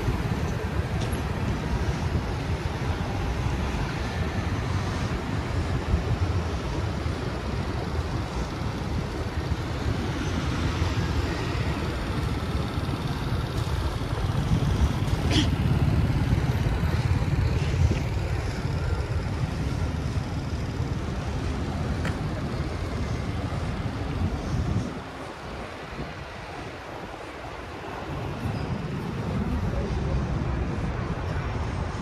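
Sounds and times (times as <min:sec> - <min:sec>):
cars and scooters passing: 0:00.0 - 0:32.0.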